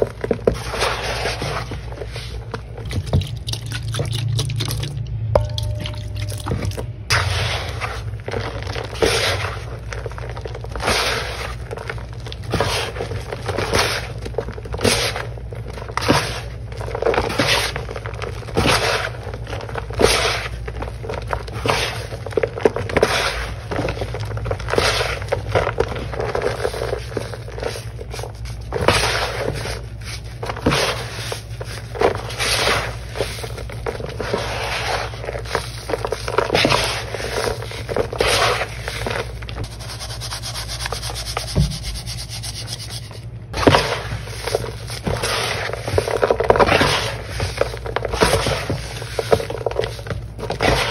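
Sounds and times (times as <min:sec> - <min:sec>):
gritty sponge squeezing: 0:00.0 - 0:05.1, 0:06.4 - 0:50.9
low steady hum: 0:00.0 - 0:50.9.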